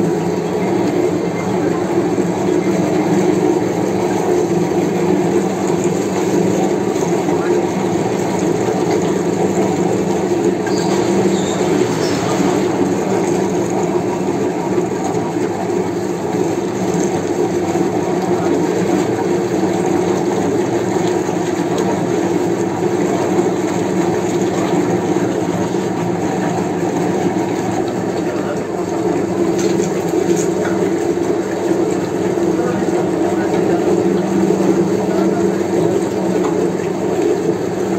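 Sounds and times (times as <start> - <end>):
meat mincer machine humming: 0.0 - 37.9.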